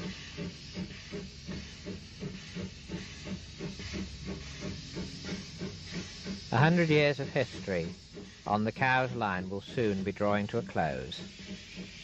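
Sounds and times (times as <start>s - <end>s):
steam hissing: 0.0s - 12.0s
steam locomotive puffing: 0.0s - 12.0s.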